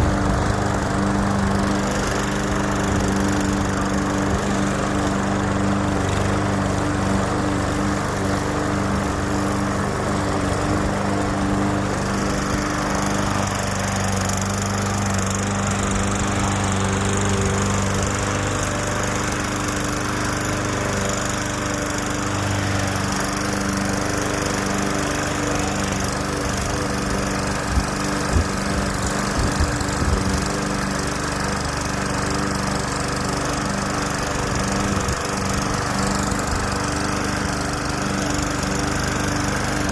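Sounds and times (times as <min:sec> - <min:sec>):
lawn mower running: 0:00.0 - 0:39.9.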